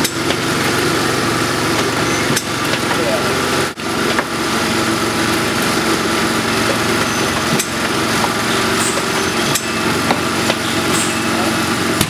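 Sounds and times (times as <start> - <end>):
production line machinery hum: 0.0 - 12.0.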